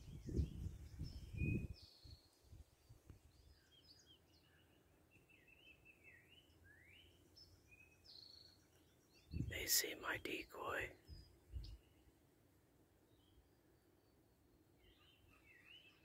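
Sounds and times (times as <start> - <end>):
songbirds singing and calling: 0.0 - 16.0.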